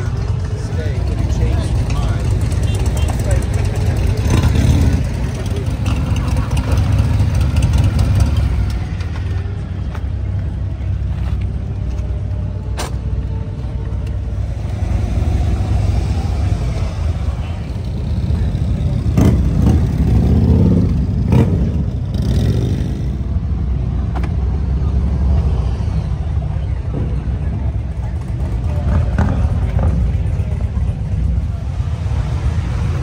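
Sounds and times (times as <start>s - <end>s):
motorcycle engines rumbling: 0.0s - 33.0s.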